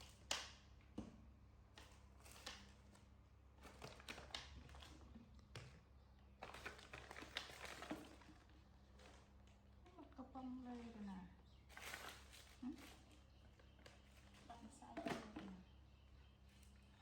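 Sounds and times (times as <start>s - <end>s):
faint taps and crinkly rustles: 0.0s - 17.0s.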